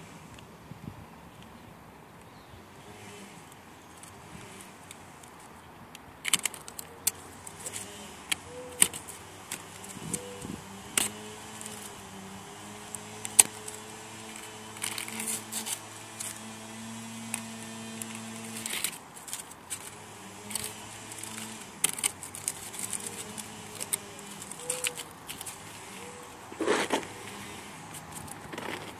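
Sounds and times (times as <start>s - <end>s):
masking tape peeling and crumpling: 3.5s - 28.9s.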